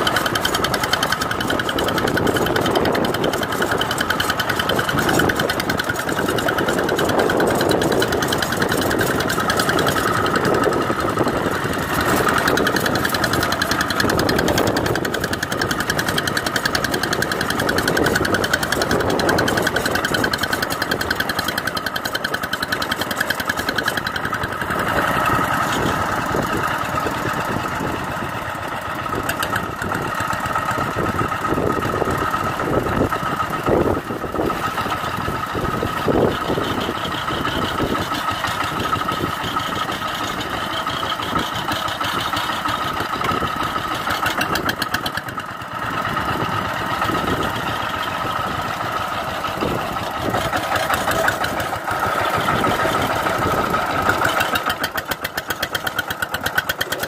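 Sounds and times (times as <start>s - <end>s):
diesel tractor engine running: 0.0s - 57.0s
rotary tiller in wet mud: 0.0s - 57.0s.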